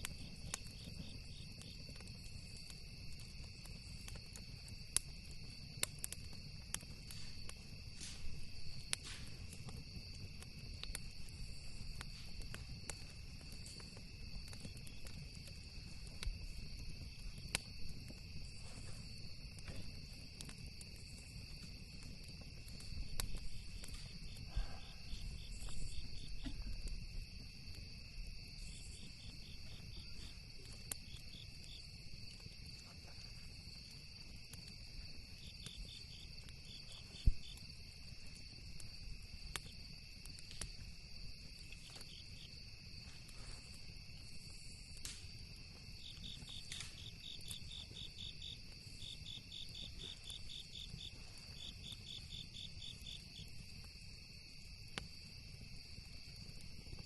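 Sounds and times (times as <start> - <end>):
campfire crackling and popping: 0.0 - 57.0
crickets chirring: 0.0 - 57.0.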